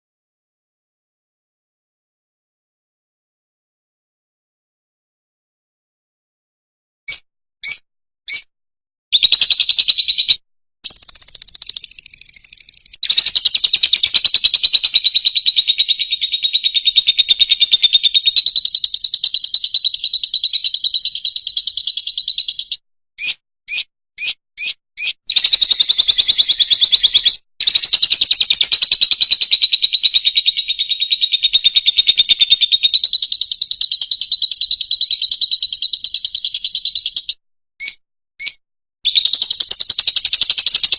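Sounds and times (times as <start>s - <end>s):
bird chirping: 7.1s - 8.5s, 9.1s - 40.9s
high-pitched bird chattering song: 7.1s - 8.5s, 9.2s - 40.9s.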